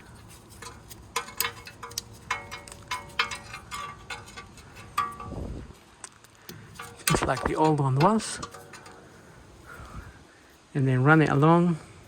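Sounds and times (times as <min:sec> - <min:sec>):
light metallic clicks and clinks: 0:00.0 - 0:10.0.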